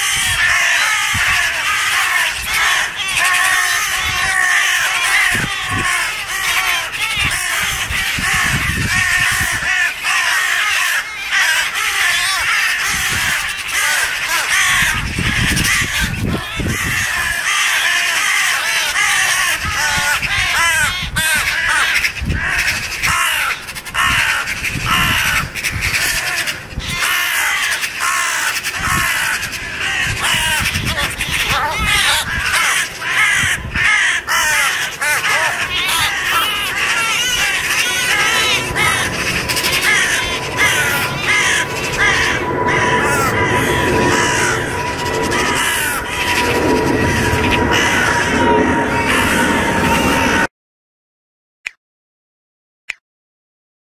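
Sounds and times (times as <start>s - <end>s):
jackdaws calling harshly: 0.0s - 50.4s.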